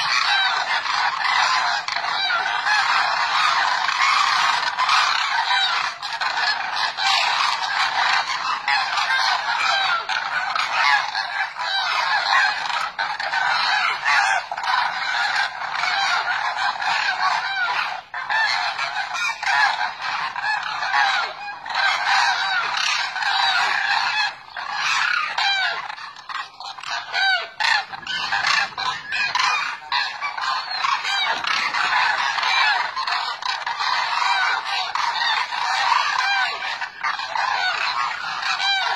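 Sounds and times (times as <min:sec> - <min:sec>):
flock of cranes calling: 0:00.0 - 0:38.9.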